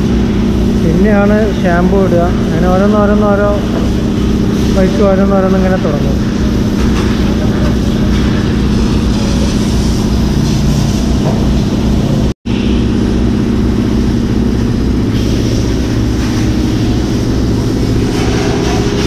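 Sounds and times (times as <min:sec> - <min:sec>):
pressure washer spraying water: 0:00.0 - 0:19.0
pump motor humming: 0:00.0 - 0:19.0.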